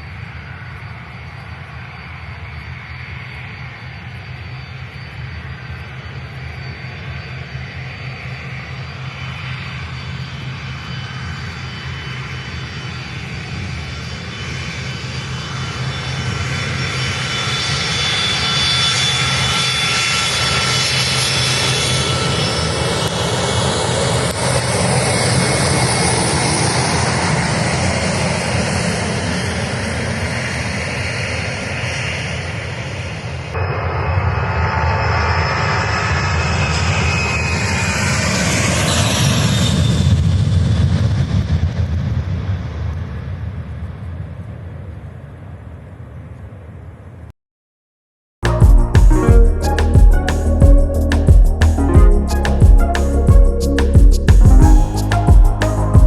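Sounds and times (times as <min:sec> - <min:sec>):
jet engines rumbling and whining: 0:00.0 - 0:47.3, 0:48.4 - 0:56.0.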